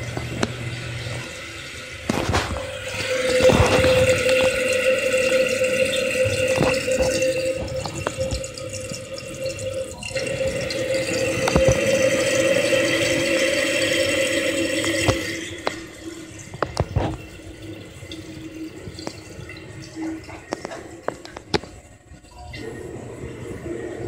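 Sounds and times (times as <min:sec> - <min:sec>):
toilet tank refilling with hiss: 0:00.0 - 0:24.0.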